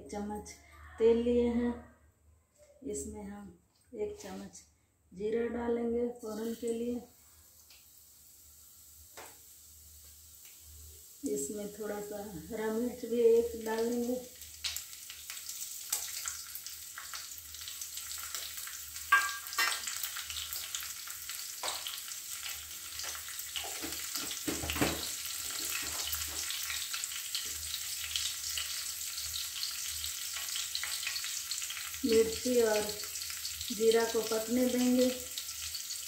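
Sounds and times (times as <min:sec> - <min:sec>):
spices sizzling in hot oil: 0:06.2 - 0:36.0.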